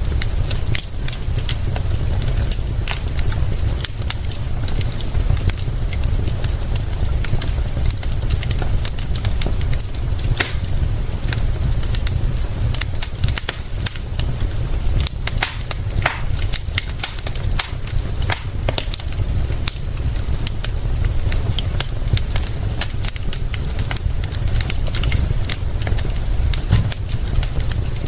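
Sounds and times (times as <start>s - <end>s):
steady low rumble: 0.0s - 28.0s
wood fire crackling and popping: 0.0s - 28.0s.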